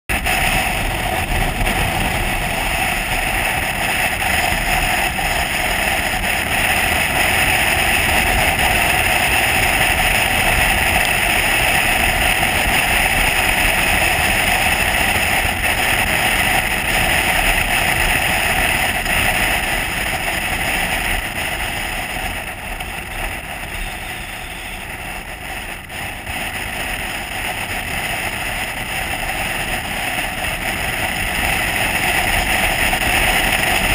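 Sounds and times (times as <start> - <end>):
motorcycle engine drone: 0.1 - 33.9
wind rush: 0.1 - 33.9.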